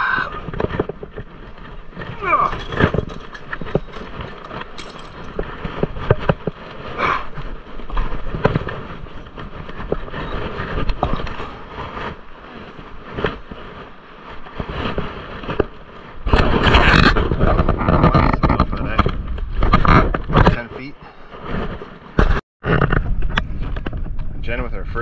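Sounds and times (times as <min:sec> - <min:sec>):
rope rubbing and rustling: 0:00.1 - 0:22.4.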